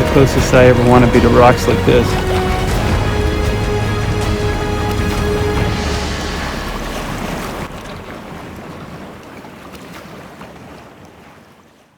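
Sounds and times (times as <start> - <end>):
waves rushing past boat: 0.0 - 11.6.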